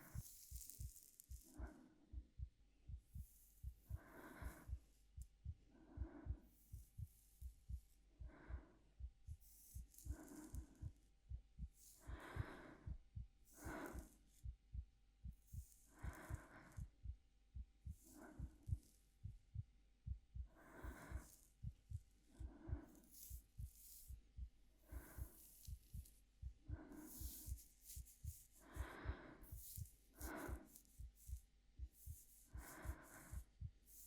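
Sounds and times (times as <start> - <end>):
gentle breathing: 0.0 - 14.5, 15.2 - 34.0
heartbeat thumping: 0.0 - 34.0.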